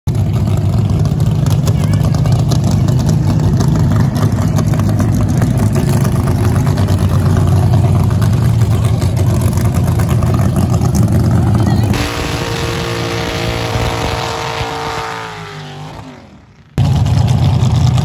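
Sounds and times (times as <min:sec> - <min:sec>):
choppy engine idle: 0:00.1 - 0:15.0, 0:16.4 - 0:18.0.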